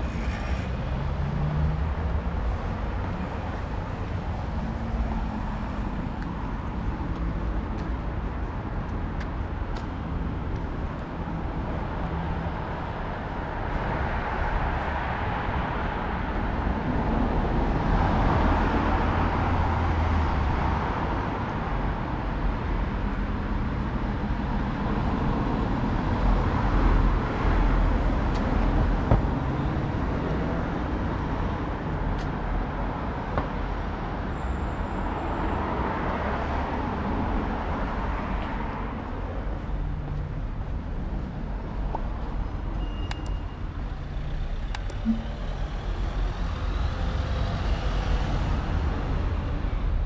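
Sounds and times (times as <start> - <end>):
road traffic rumble: 0.0 - 50.0
vehicles passing: 0.0 - 50.0.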